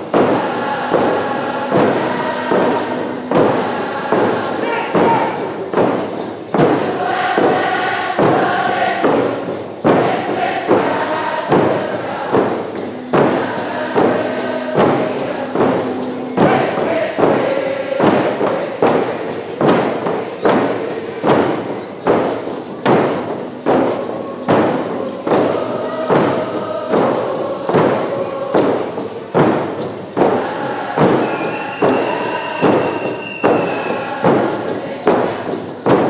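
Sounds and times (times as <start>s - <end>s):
group of voices singing: 0.0s - 36.0s
hand drums beating: 0.0s - 36.0s.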